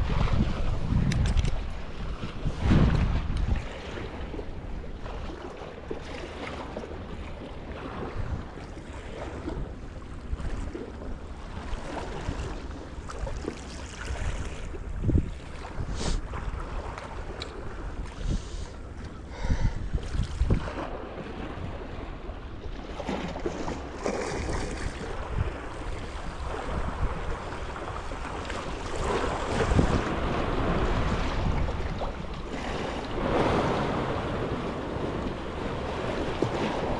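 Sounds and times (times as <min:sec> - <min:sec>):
sea water lapping against rocks: 0:00.0 - 0:36.9
wind rumbling on microphone: 0:00.0 - 0:36.9.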